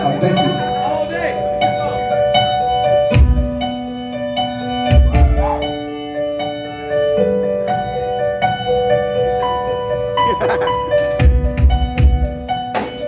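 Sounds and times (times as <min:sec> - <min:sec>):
keyboard repeated notes: 0:00.0 - 0:13.0.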